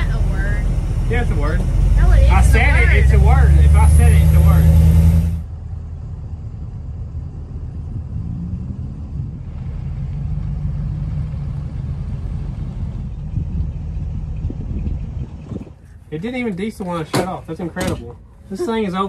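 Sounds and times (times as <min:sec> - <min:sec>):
motorhome engine rumbling: 0:00.0 - 0:19.0.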